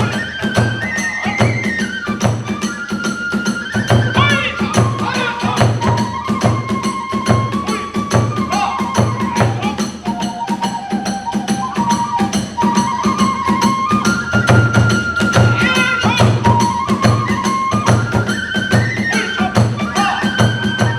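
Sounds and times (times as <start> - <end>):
bamboo flute melody: 0.0 - 20.9
drum beat: 0.0 - 20.9
small hand cymbals: 0.0 - 20.9.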